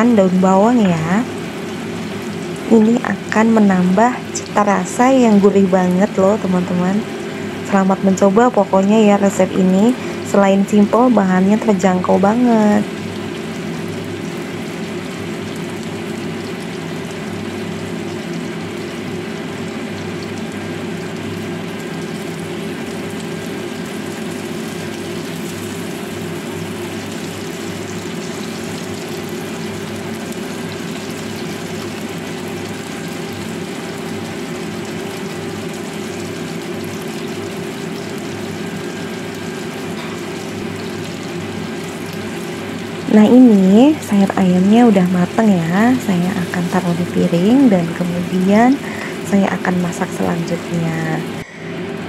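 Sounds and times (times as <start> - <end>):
chicken sizzling in oil: 0.0 - 52.0
constant low hum: 0.0 - 52.0.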